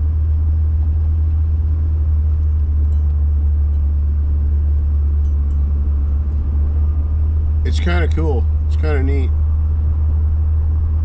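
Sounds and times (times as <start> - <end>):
vehicle driving on snowy road: 0.0 - 11.0.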